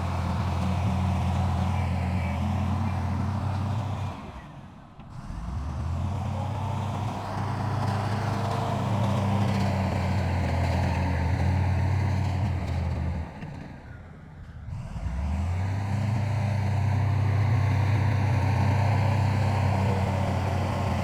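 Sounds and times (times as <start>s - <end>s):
diesel machinery engine droning: 0.0s - 21.0s.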